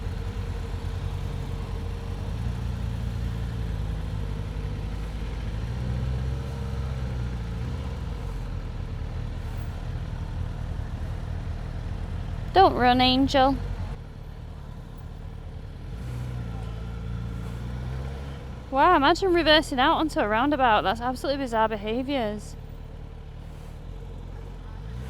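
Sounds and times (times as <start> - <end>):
motorcycle engine idling: 0.0 - 17.8, 18.4 - 25.0.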